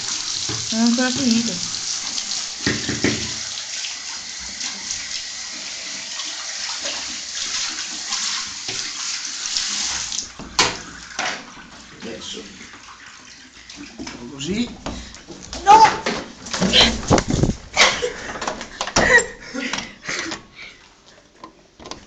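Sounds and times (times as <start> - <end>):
shower water spraying: 0.0 - 18.4.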